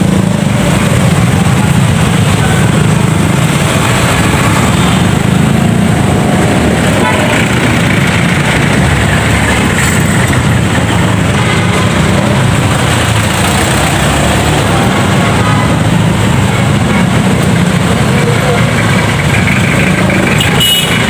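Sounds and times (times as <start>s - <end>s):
motorcycle engine: 0.0s - 21.0s.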